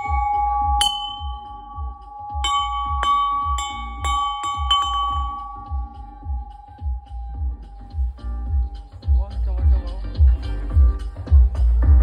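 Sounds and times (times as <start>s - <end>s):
tubular bells ringing: 0.0s - 11.0s
electronic music with bass beat: 0.0s - 12.0s.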